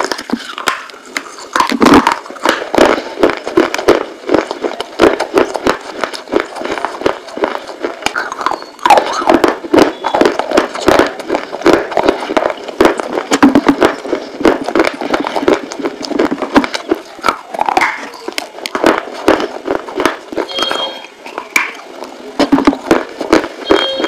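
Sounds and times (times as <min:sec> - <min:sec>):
crunching clay between teeth: 0:00.0 - 0:24.0.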